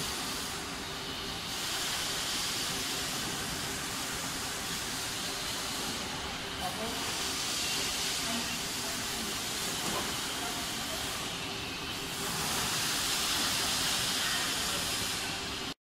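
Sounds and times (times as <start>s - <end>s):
compressed air hiss: 0.0s - 15.8s
faint machinery hum: 0.0s - 15.8s.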